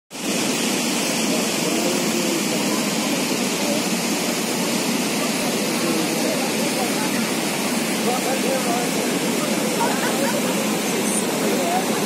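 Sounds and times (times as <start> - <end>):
waterfall rushing: 0.1 - 12.0.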